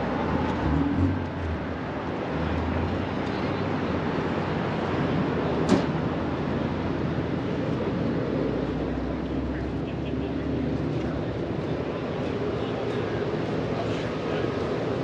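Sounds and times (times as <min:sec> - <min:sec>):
crowd: 0:02.0 - 0:06.1, 0:07.0 - 0:15.0.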